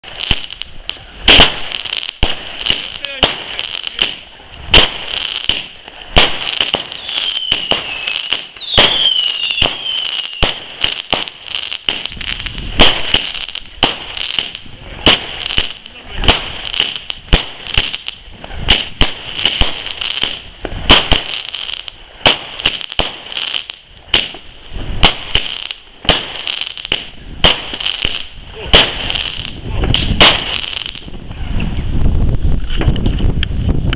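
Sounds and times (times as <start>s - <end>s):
fireworks bangs: 0.0s - 33.4s
fireworks crackling: 0.0s - 33.9s.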